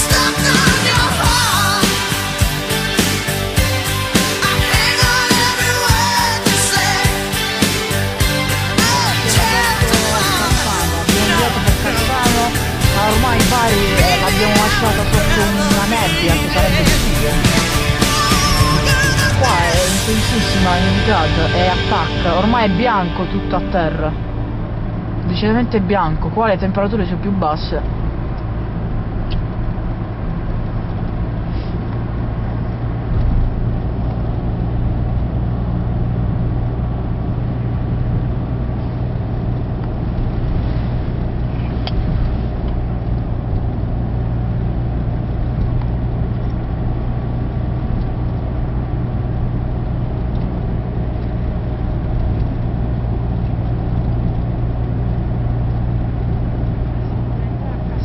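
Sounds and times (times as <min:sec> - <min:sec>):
car engine and road hum: 0:00.0 - 0:58.0.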